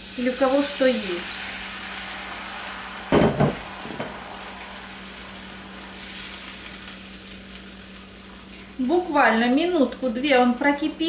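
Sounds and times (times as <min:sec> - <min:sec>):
sauce sizzling in a frying pan: 0:00.0 - 0:11.0.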